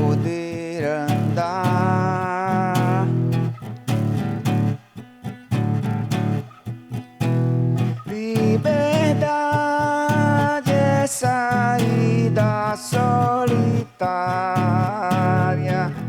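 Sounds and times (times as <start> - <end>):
guitar plucked notes and chords: 0.0 - 16.0.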